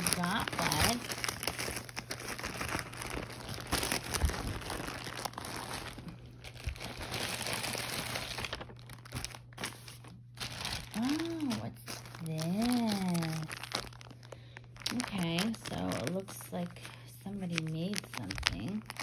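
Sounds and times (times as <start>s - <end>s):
plastic mailer crinkling: 0.0s - 19.0s.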